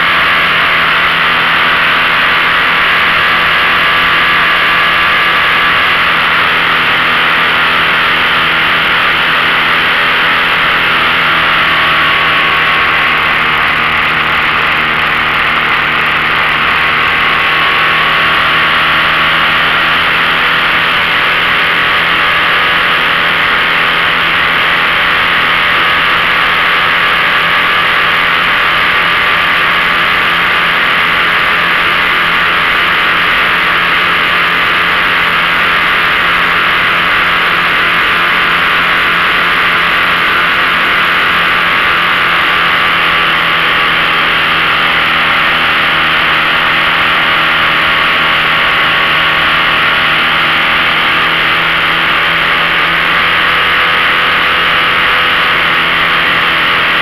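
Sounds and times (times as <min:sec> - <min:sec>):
outboard motor running: 0:00.0 - 0:57.0
steady rushing noise: 0:00.0 - 0:57.0.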